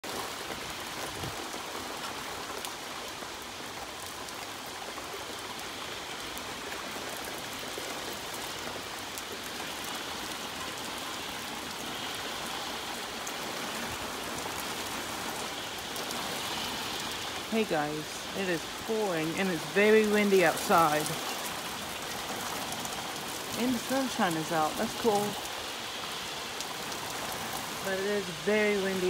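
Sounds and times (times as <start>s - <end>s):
heavy rain pouring: 0.0s - 29.0s
raindrops ticking: 0.0s - 29.0s.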